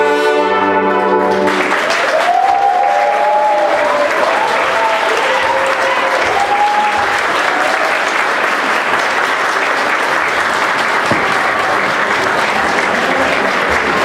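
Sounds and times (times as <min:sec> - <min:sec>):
audience applauding: 0:01.2 - 0:14.0.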